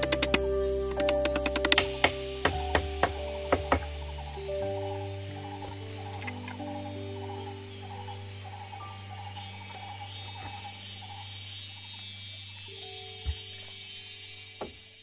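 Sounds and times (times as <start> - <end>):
chirping trill: 0.0 - 14.7
insects droning: 0.0 - 15.0
soft background music: 0.0 - 15.0.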